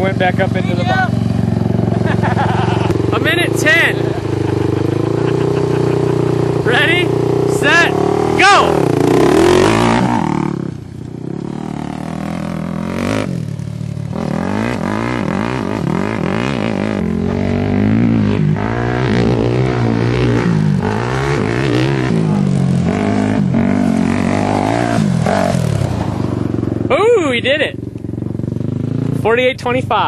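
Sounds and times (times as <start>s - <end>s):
quad engine revving: 0.0s - 30.0s.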